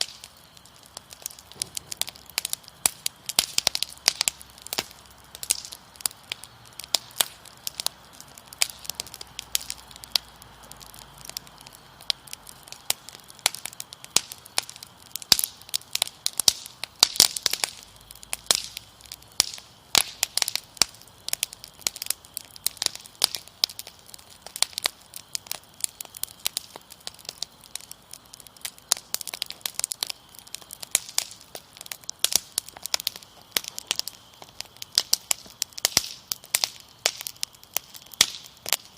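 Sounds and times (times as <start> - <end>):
crickets chirring: 0.0 - 38.9
wood fire crackling and popping: 0.0 - 38.9.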